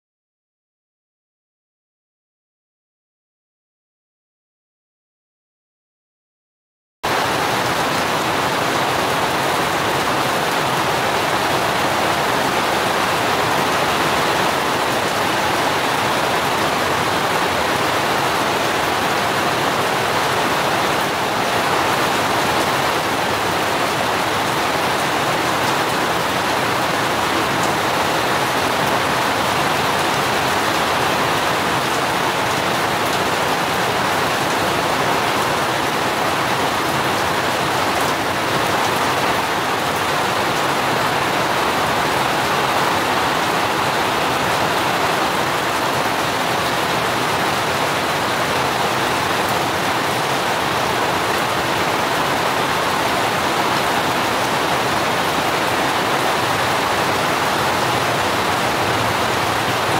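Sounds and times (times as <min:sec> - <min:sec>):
rain falling on plants: 0:07.1 - 0:59.9.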